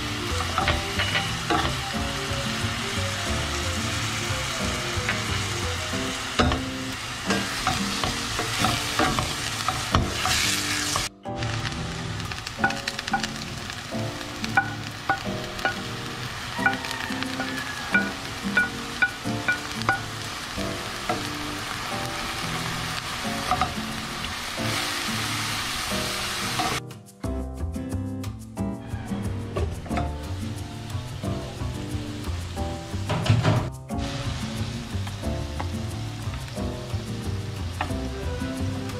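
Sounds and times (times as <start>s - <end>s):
meat sizzling in a pan: 0.0s - 26.8s, 29.7s - 38.9s
soft background music: 0.0s - 38.9s.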